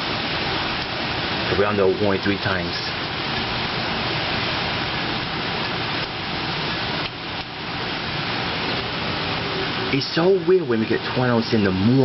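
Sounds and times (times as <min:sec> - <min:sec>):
wind and rain rushing: 0:00.0 - 0:12.0.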